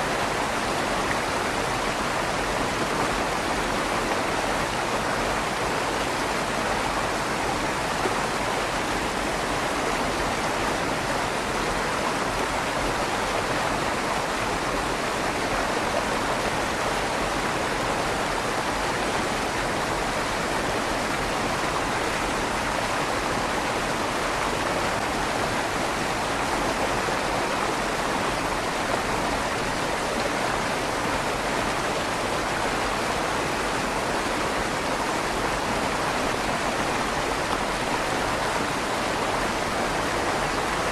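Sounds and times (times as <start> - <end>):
river water rushing through tunnel: 0.0 - 40.9.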